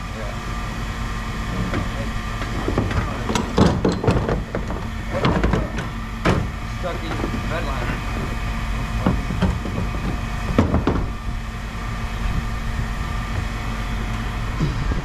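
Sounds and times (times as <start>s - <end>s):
heavy machinery running: 0.0s - 15.0s.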